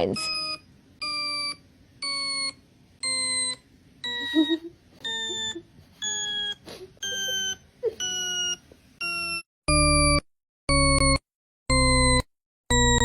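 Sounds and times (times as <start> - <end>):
electronic beep tones: 0.0 - 13.0.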